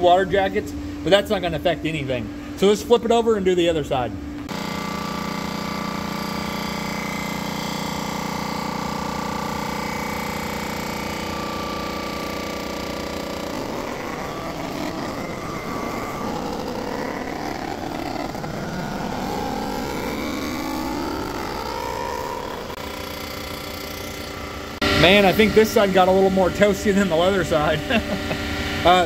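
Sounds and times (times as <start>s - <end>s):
surfacing machine motor hum: 0.0s - 29.0s
cutter grinding metal: 4.5s - 29.0s.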